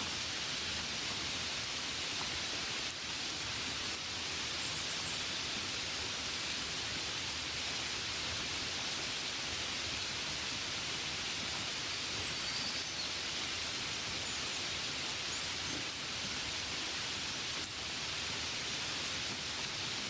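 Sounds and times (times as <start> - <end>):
rain on a window: 0.0 - 20.0.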